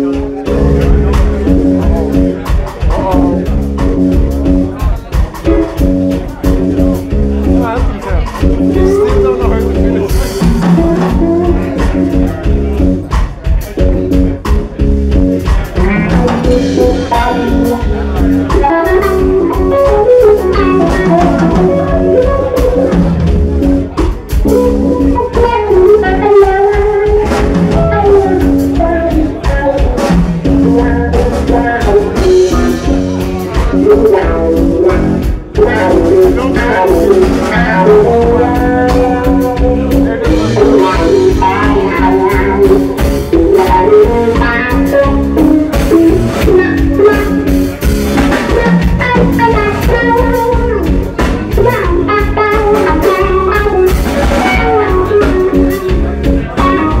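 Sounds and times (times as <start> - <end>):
electric guitar bending notes: 0.0 - 57.0
rock band playing live: 0.0 - 57.0.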